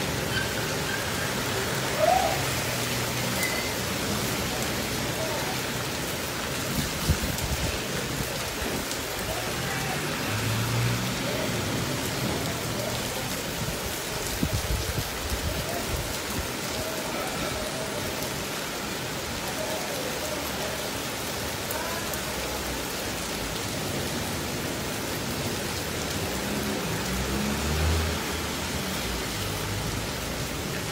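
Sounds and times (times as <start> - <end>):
heavy rain on standing water: 0.0 - 30.9.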